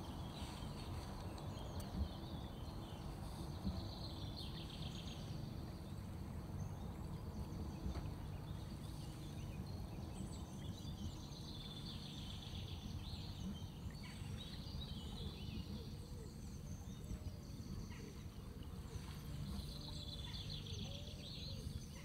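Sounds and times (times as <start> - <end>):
birds calling and chirping: 0.0 - 22.0
steady low rumble: 0.0 - 22.0.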